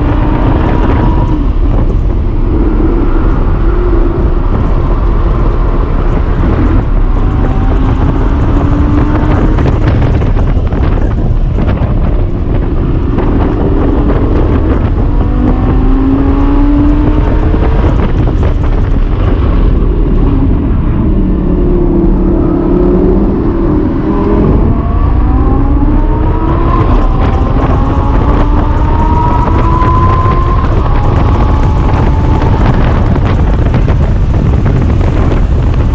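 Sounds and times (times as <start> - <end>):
sports car engine accelerating: 0.0 - 35.9
wind and road rumble: 0.0 - 35.9.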